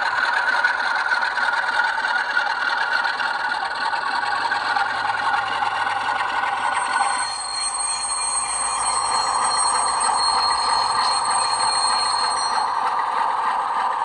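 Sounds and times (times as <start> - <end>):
diesel engine sound from small speaker: 0.0 - 14.0.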